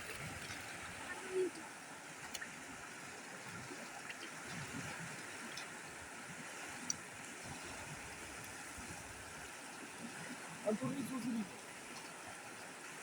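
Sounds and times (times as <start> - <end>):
faint drip-like ticks: 0.1 - 13.0.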